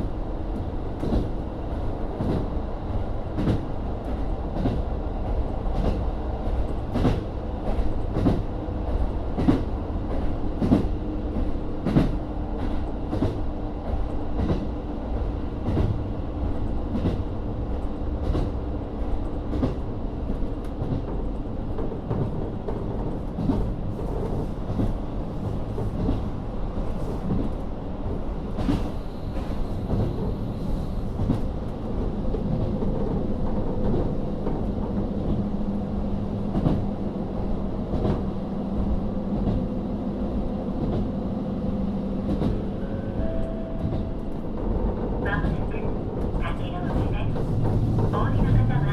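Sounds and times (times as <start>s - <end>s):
diesel railcar engine rumble: 0.0s - 48.9s.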